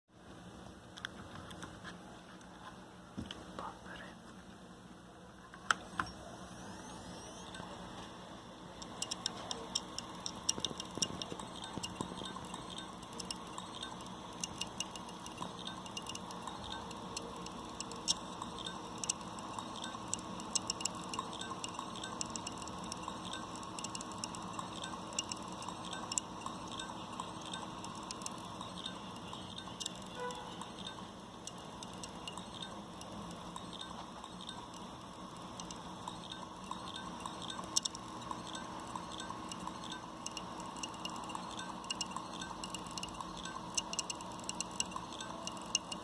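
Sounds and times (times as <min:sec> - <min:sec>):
hard drive whir: 0:05.2 - 0:46.0
hard drive clicking: 0:05.6 - 0:08.0, 0:08.6 - 0:46.0.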